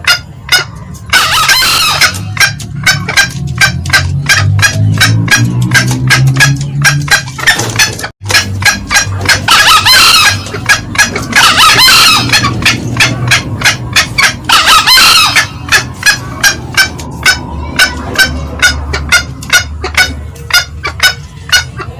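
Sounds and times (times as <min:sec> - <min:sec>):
junglefowl clucks: 0:00.0 - 0:21.9
junglefowl crowing: 0:00.0 - 0:21.9.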